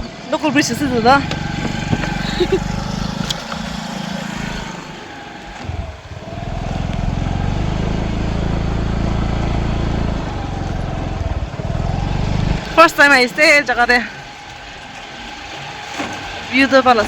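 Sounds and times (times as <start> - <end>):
scooter engine running: 0.1 - 17.0.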